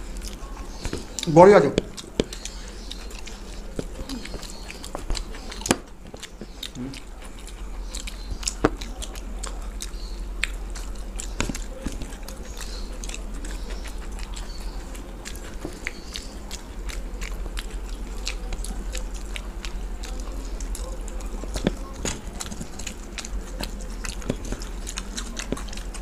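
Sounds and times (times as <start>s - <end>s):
people chewing and biting: 0.0s - 26.0s
steady low hum: 0.0s - 26.0s
wet mouth clicks and smacks: 0.0s - 26.0s.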